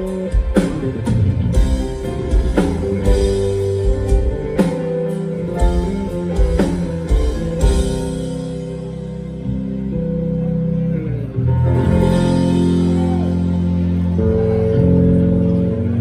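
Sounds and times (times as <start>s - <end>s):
rock band playing slow ballad: 0.0s - 16.0s.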